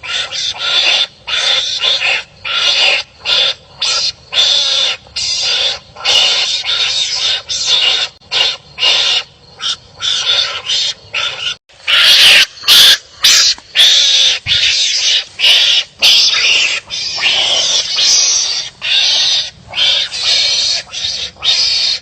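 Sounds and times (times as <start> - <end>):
animals giving rasping calls: 0.0 - 22.0.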